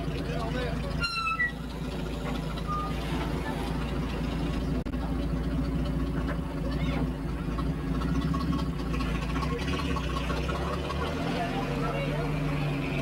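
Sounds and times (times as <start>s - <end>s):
jeep engine idling: 0.0s - 13.0s.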